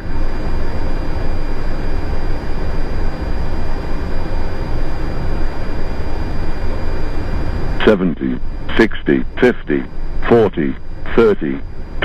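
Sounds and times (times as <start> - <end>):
aircraft cockpit rushing noise: 0.0 - 12.0.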